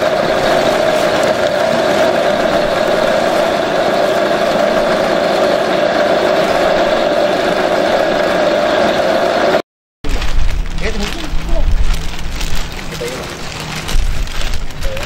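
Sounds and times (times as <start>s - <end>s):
grass chopper humming: 0.0s - 15.0s.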